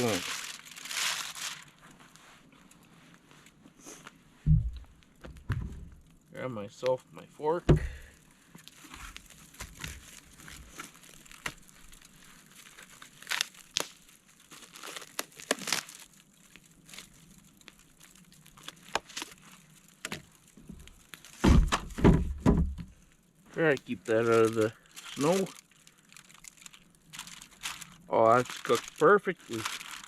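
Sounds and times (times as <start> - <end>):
aluminium foil crinkling: 0.0 - 3.6, 8.0 - 22.0, 22.9 - 30.0.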